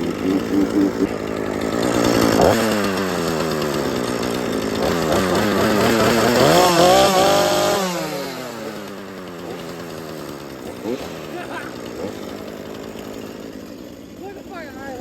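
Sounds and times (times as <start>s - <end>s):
chainsaw engine revving: 0.0s - 15.0s.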